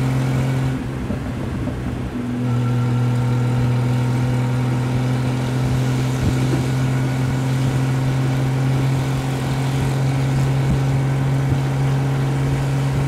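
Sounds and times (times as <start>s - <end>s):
car engine cruising: 0.0s - 13.0s
road noise: 0.0s - 13.0s
wind noise: 0.0s - 13.0s.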